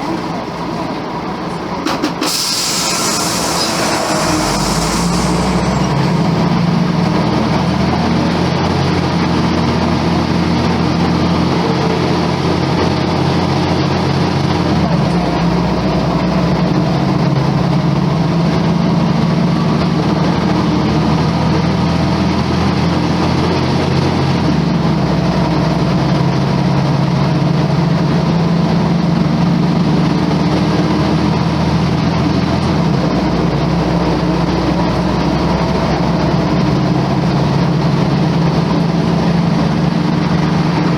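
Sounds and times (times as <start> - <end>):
bus diesel engine droning: 0.0 - 40.9.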